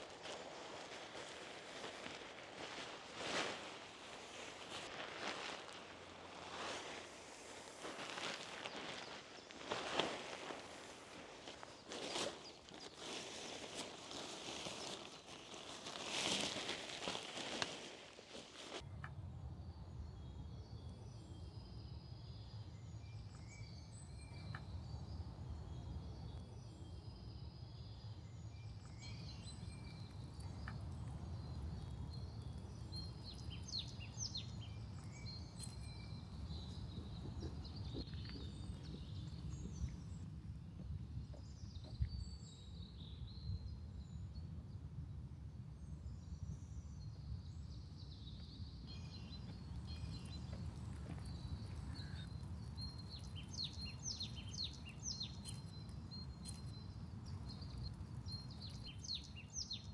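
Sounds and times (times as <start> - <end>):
small birds chirping: 0.2 - 17.7, 19.6 - 44.8, 45.8 - 59.9.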